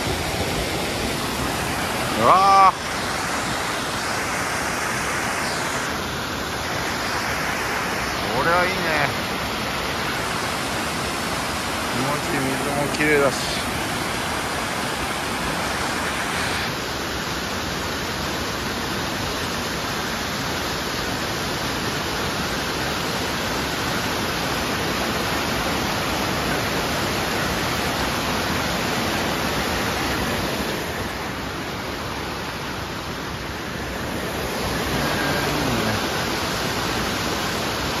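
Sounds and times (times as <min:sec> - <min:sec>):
waterfall rushing over rocks: 0:00.0 - 0:38.0.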